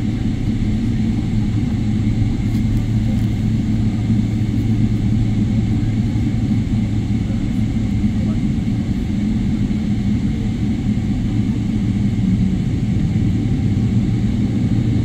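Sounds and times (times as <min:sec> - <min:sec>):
jet engines rumbling from cabin: 0:00.0 - 0:15.0.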